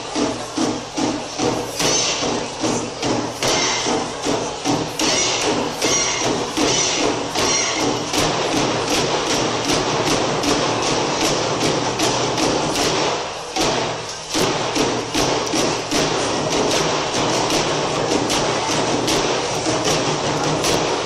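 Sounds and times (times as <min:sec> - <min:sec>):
drum ensemble heavy strokes: 0:00.0 - 0:21.0.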